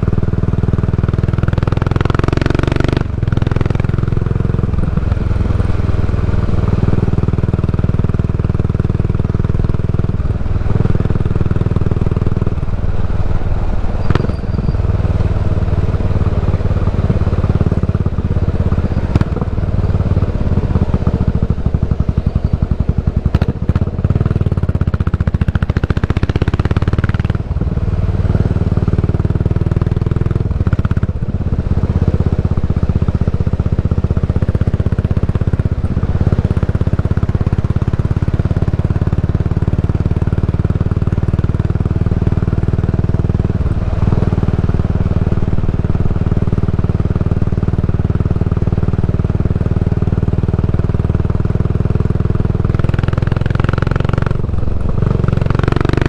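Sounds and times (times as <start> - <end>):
motorcycle engine exhaust note: 0.0 - 56.0.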